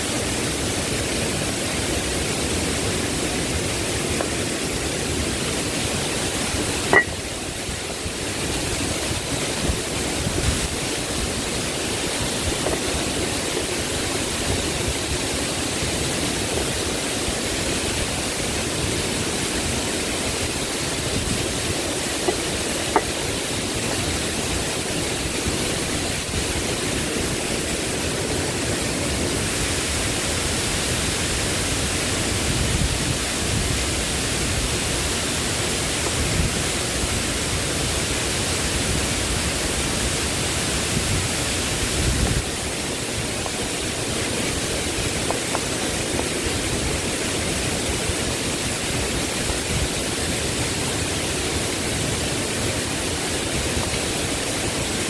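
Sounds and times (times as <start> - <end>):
heavy rain: 0.0 - 55.0
running water: 0.0 - 55.0.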